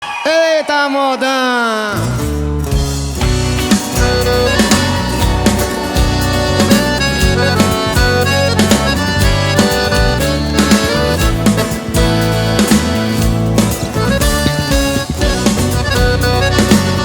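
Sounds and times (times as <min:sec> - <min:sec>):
bass guitar: 0:02.0 - 0:17.0
drum kit beat: 0:02.1 - 0:17.0
lead melody instrument: 0:03.2 - 0:17.0.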